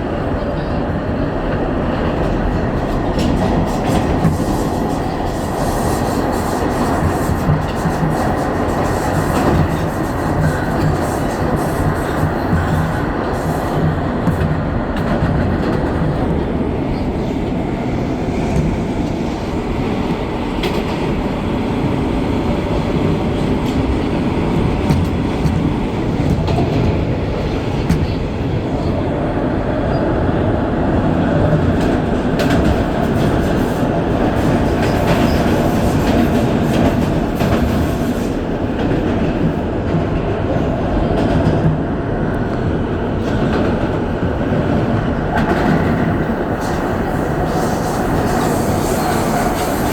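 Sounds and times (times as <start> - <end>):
wheels rumbling on rail: 0.0 - 49.9.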